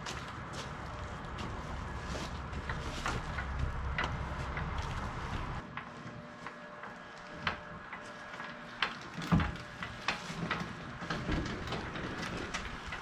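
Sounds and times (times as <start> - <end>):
trailer clanking and rattling: 0.0 - 5.7, 7.3 - 13.0.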